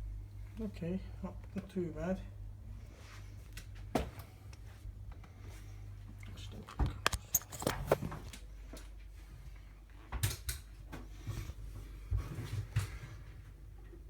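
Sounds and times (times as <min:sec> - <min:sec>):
low steady hum: 0:00.0 - 0:12.5.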